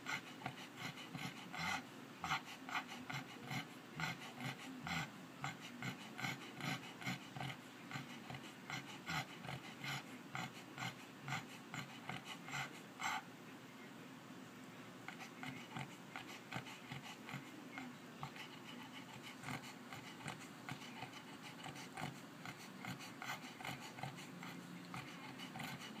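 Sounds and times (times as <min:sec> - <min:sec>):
pet snoring: 0:00.0 - 0:13.2, 0:15.1 - 0:26.0.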